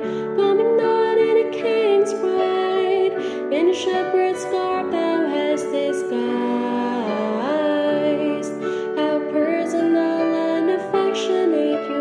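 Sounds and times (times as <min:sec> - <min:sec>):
keyboard accompaniment: 0:00.0 - 0:12.0
person singing: 0:00.0 - 0:12.0.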